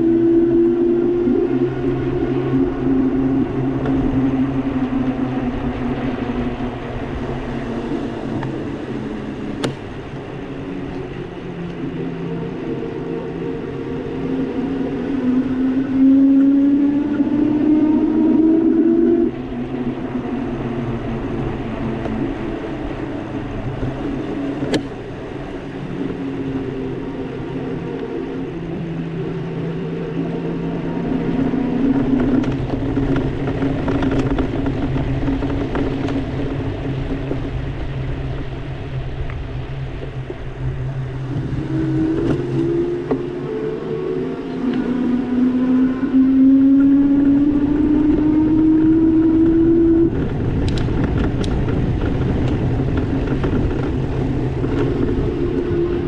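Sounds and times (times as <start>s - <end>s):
constant rushing noise: 0.0s - 56.0s.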